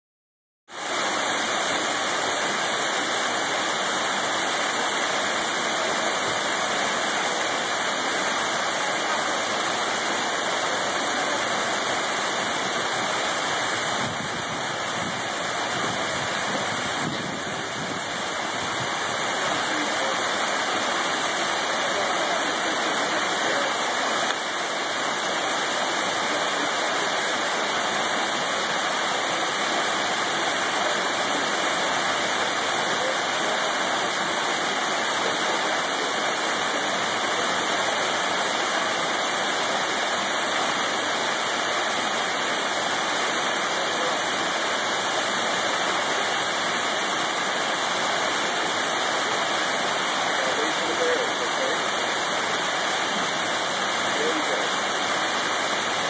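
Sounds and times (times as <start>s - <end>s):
waterfall splashing over rocks: 0.7s - 56.0s.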